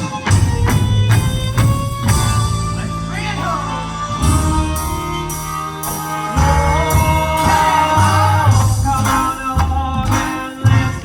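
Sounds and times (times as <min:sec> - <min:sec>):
double bass low notes: 0:00.0 - 0:11.0
violin melody: 0:00.0 - 0:11.0.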